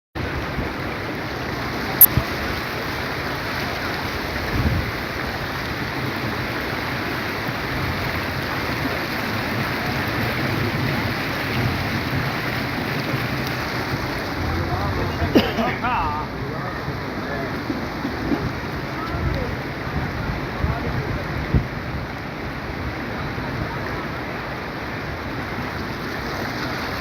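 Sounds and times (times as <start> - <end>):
floodwater rushing: 0.2 - 27.0.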